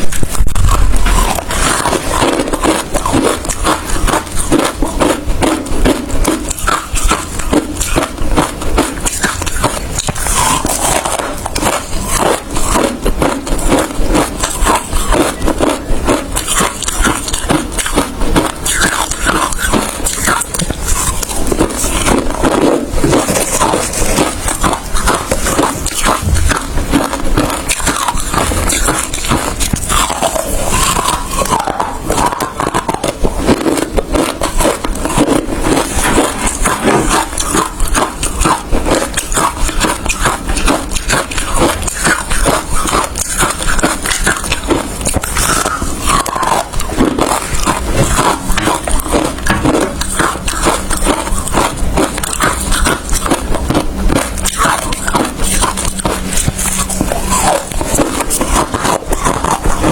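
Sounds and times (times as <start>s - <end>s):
ice being crunched: 0.0s - 5.2s, 5.9s - 59.9s.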